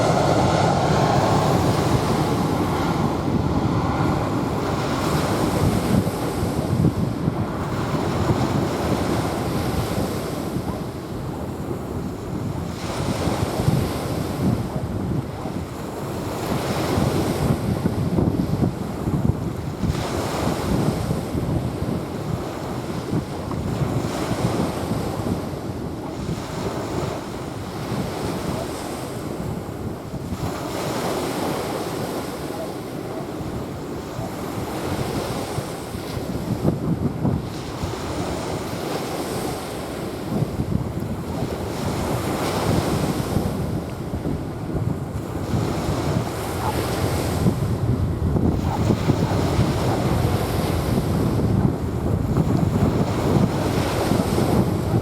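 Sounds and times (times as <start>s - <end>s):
small waves washing onto sand: 0.0s - 55.0s
wind buffeting microphone: 0.0s - 55.0s.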